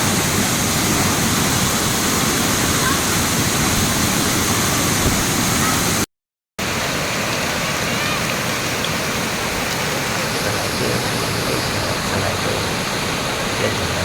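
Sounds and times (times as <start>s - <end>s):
waterfall rushing: 0.0s - 6.0s, 6.6s - 14.0s.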